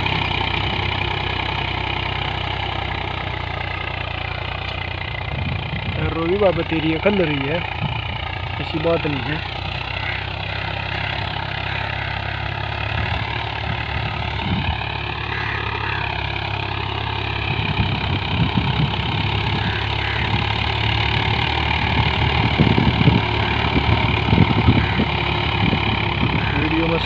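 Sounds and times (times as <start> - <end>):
tractor diesel engine under load: 0.0 - 27.0.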